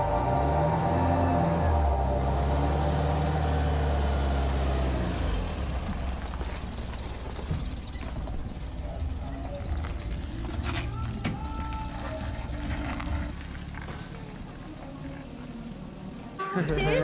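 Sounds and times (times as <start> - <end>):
truck engine driving past: 0.0 - 17.0.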